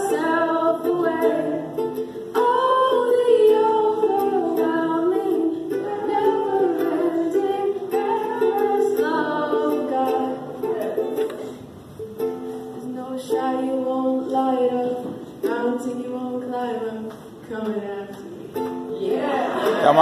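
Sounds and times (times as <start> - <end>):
woman singing into a microphone: 0.0 - 11.5, 12.7 - 19.6
ukulele strumming: 0.0 - 20.0.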